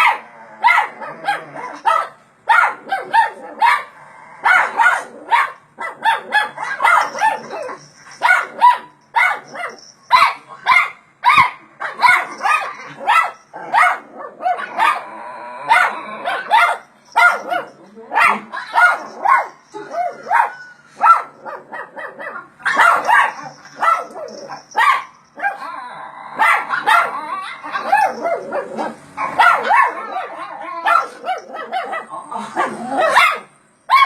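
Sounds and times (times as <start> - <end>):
small dog barking agitatedly: 0.0 - 15.0, 15.7 - 25.7, 26.4 - 32.1.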